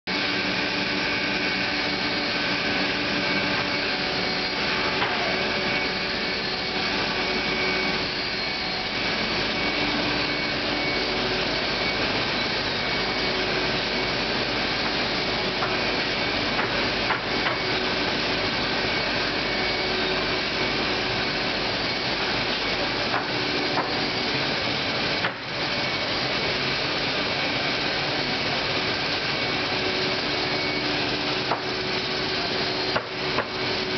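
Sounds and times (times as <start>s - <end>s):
printing machinery running: 0.1s - 33.9s.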